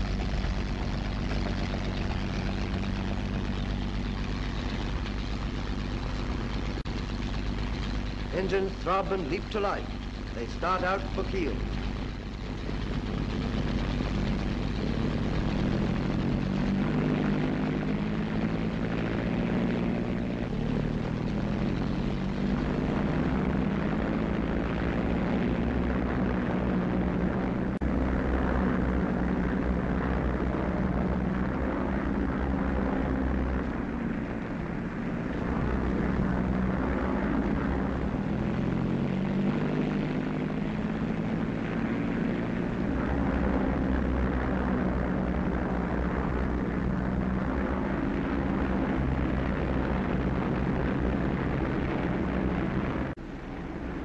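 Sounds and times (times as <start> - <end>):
aircraft radial engines droning: 0.0 - 54.0.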